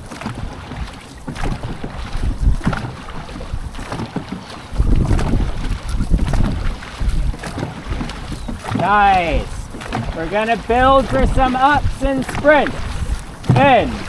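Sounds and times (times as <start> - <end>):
paddles pulling through water: 0.0 - 14.0
wind buffeting microphone: 0.0 - 14.0.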